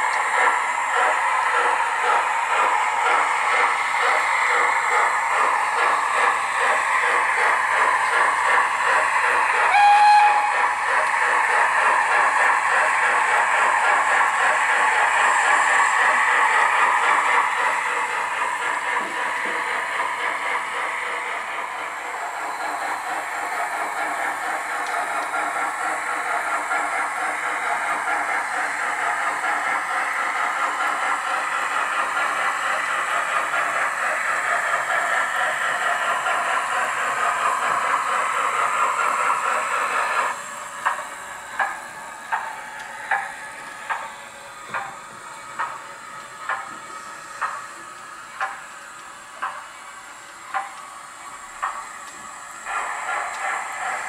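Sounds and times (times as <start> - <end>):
steam chuffing beats: 0.0 - 54.0
steam locomotive hissing: 0.0 - 54.0.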